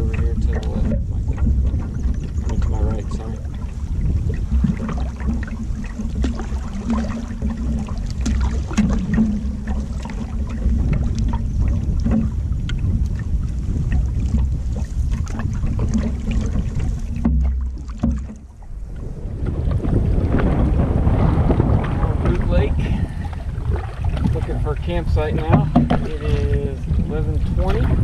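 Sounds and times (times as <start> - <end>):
waves splashing against hull: 0.0 - 28.0
wind buffeting microphone: 0.0 - 28.0.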